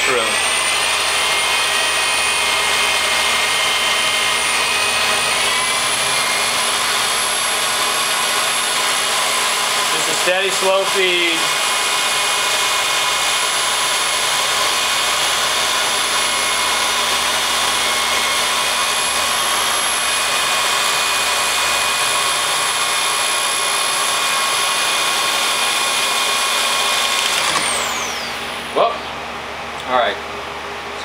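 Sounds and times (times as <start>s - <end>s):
electric drill whining: 0.0s - 31.0s.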